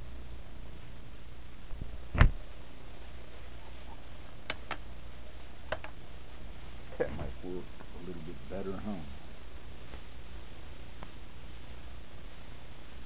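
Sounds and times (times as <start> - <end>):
microphone hum and hiss: 0.0 - 13.0.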